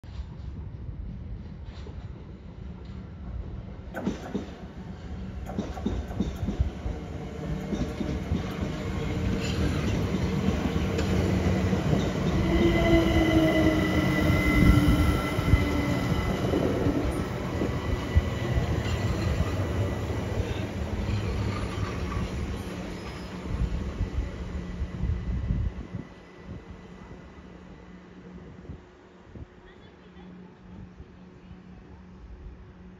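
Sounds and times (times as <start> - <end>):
train wheel rumble and clatter: 0.0 - 26.7.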